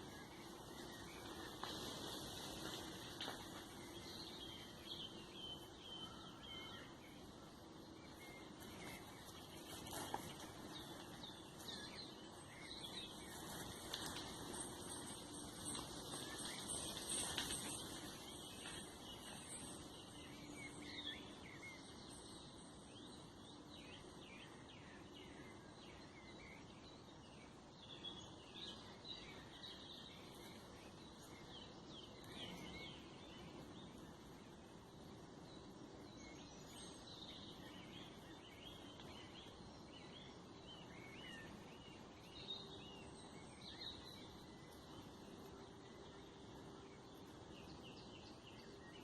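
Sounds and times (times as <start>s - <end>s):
faint birdsong chirps: 0.0s - 49.0s
steady background hiss: 0.0s - 49.0s.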